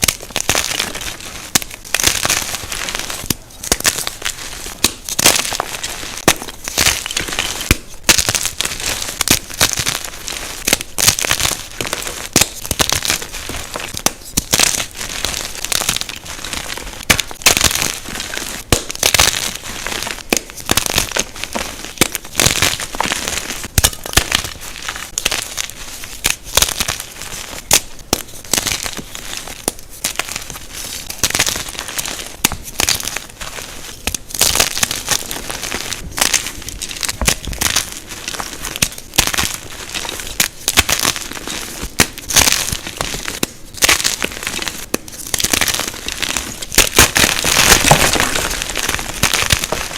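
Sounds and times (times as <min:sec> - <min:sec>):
chalk blocks being crushed: 0:00.0 - 0:49.9.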